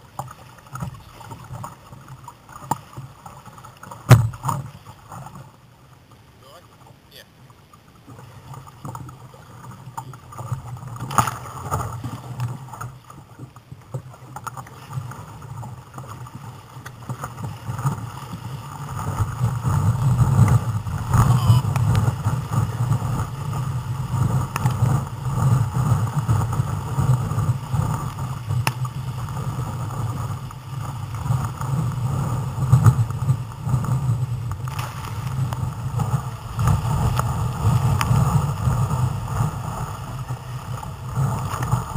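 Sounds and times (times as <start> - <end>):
water splashing against kayak hull: 0.0 - 41.9
waves breaking: 0.0 - 41.9.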